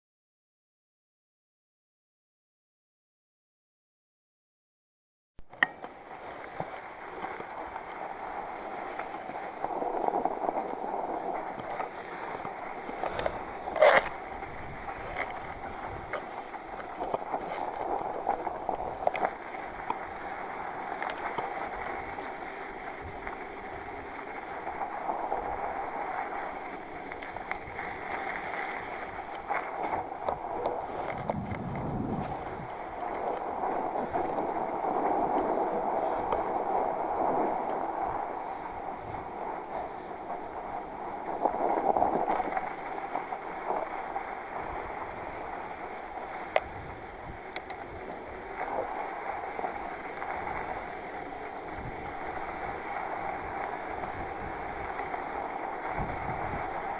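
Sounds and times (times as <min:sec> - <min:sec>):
bike tyres on snow: 0:05.4 - 0:56.9.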